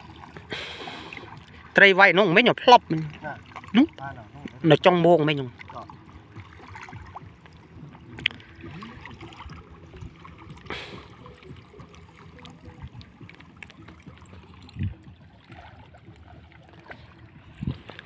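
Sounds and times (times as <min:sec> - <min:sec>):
water dripping and trickling: 0:00.0 - 0:18.0
water sloshing and splashing: 0:00.0 - 0:18.0.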